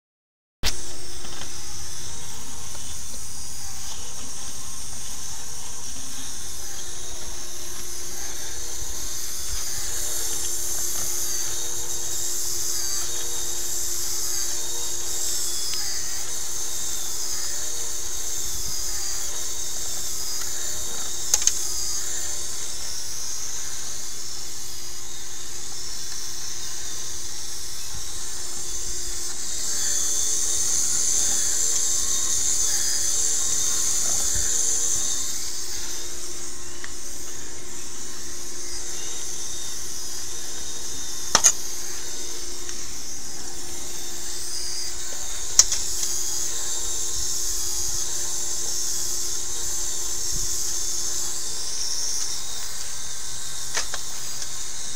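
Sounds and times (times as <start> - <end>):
small electric motor whining: 0.6 - 54.9.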